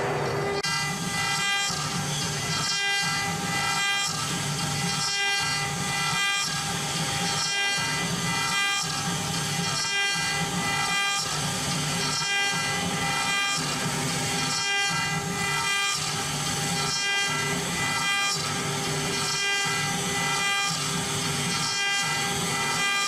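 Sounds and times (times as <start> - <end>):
grinding noise: 0.0 - 23.0
router spindle whining: 0.0 - 23.0.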